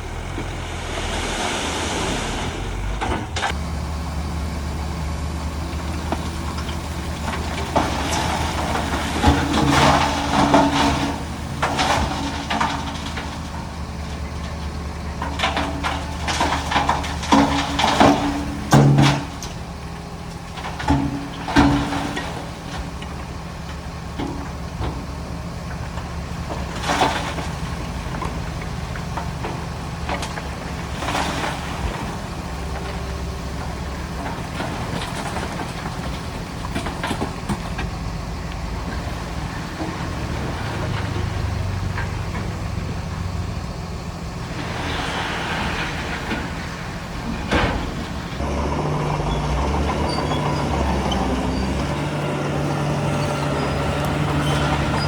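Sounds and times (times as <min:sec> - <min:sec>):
diesel machinery running: 0:00.0 - 0:55.0.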